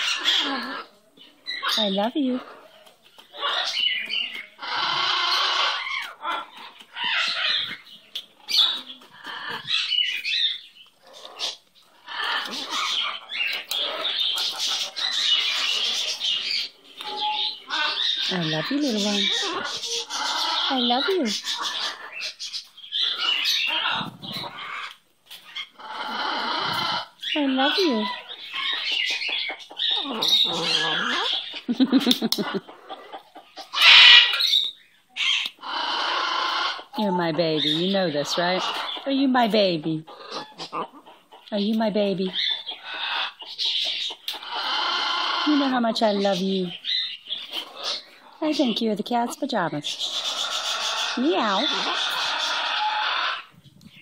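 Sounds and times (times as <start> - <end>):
macaw raspy calls: 0.0 - 2.7, 3.4 - 7.9, 8.5 - 31.7, 33.4 - 54.0.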